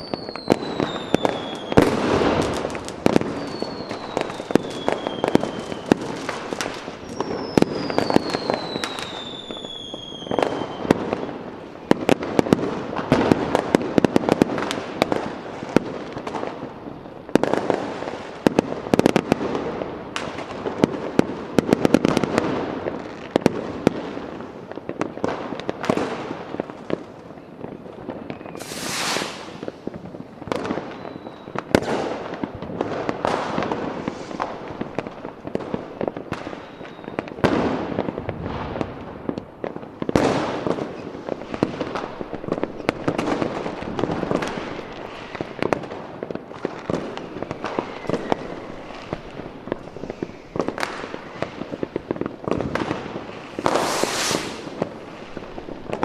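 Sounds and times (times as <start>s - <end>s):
fireworks crackling and banging: 0.0s - 56.0s
whistling fireworks: 0.0s - 56.0s.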